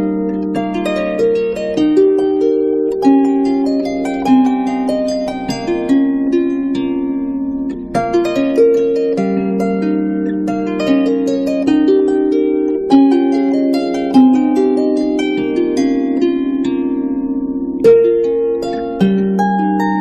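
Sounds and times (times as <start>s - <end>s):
harp-like plucked string melody: 0.0s - 20.0s.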